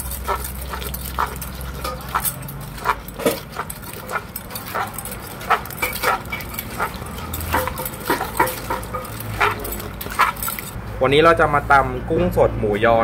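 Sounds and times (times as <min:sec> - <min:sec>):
wooden pestle pounding in mortar: 0:00.0 - 0:10.7.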